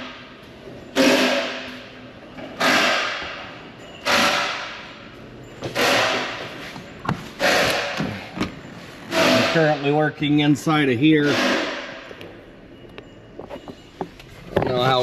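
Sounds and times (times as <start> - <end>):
ringing hammer blows: 0.0 - 15.0.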